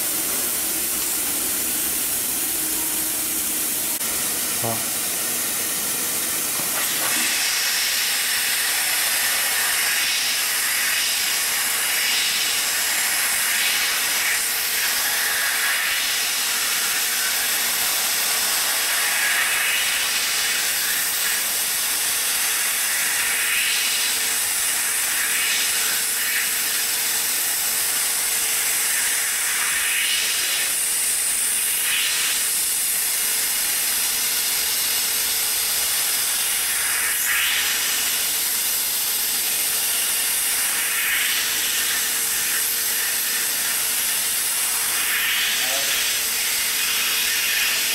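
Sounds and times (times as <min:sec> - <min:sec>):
faint steady machine hum: 0:00.0 - 0:47.9
hot air hissing from nozzle: 0:06.2 - 0:47.9.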